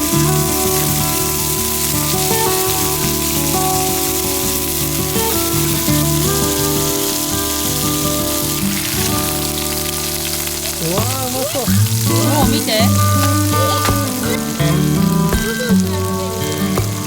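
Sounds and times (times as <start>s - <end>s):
food sizzling in a pan: 0.0s - 17.0s
instrumental background music: 0.0s - 17.0s.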